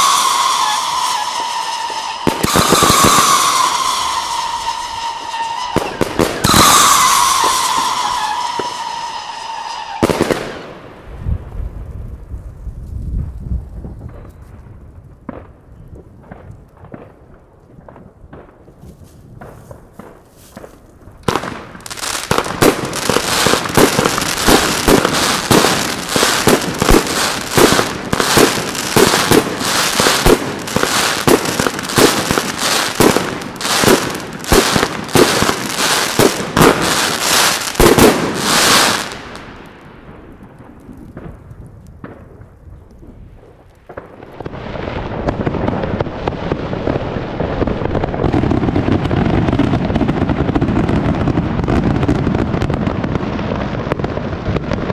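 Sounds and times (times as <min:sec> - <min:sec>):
firework bangs and crackles: 0:00.0 - 0:54.9.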